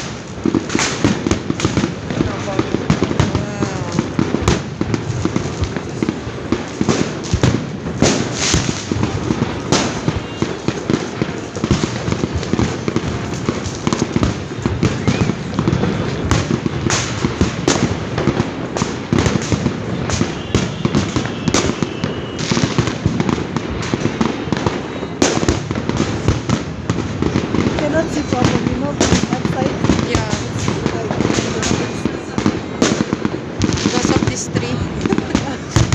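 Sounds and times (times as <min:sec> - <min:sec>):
fireworks crackling and banging: 0:00.0 - 0:35.9.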